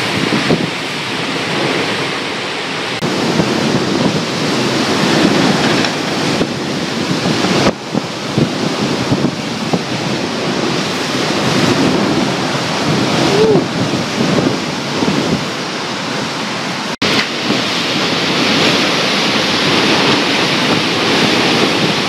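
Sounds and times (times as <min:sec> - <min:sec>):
heavy rain rushing: 0:00.0 - 0:22.0
wind buffeting microphone: 0:00.0 - 0:22.0.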